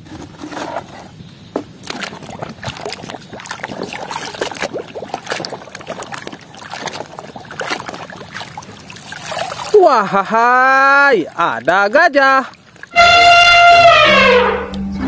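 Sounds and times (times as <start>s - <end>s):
toy sloshing in muddy water: 1.7s - 14.0s.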